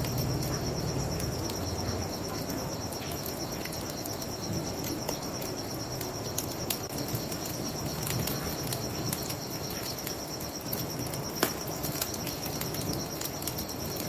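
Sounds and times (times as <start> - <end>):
bonfire crackling and popping: 0.0 - 14.0
crickets chirping: 0.0 - 14.0.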